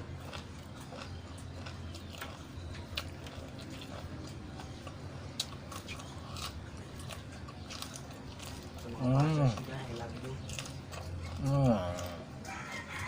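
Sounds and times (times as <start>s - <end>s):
chewing crisp beans: 0.0s - 13.0s.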